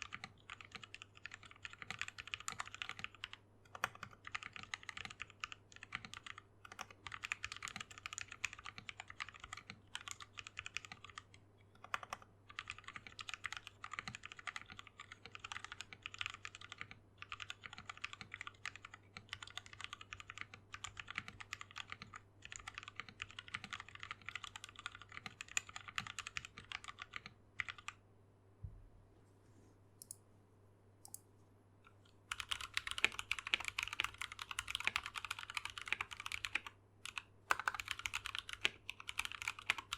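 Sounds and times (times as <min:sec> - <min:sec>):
typing on mechanical keyboard: 0:00.0 - 0:28.0, 0:32.3 - 0:39.9.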